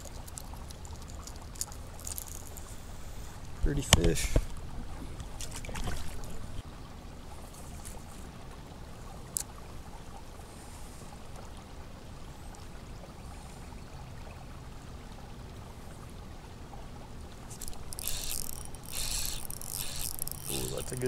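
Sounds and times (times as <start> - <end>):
faint steady hiss: 0.0 - 21.0
water splashing and trickling: 0.0 - 21.0.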